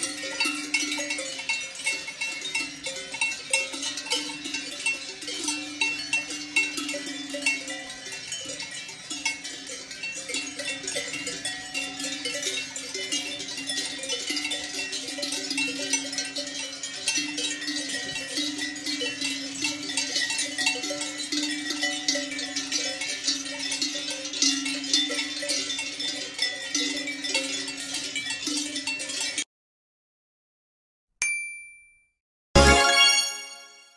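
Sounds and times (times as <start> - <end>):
cowbells clanking: 0.0 - 29.4.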